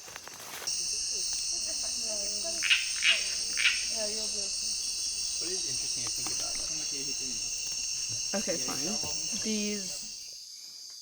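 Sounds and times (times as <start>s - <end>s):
insects trilling: 0.0s - 11.0s
short loud insect chirps: 0.0s - 11.0s.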